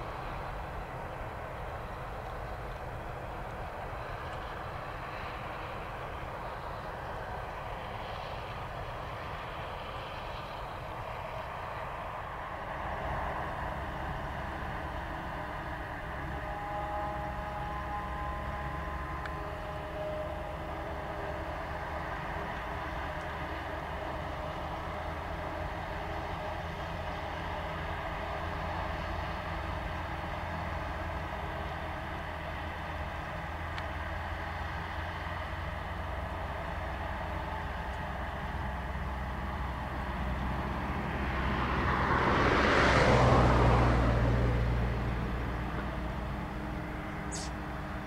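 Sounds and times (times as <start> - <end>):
distant harvester engine drone: 0.0 - 48.0
vehicle passing by: 4.0 - 48.0.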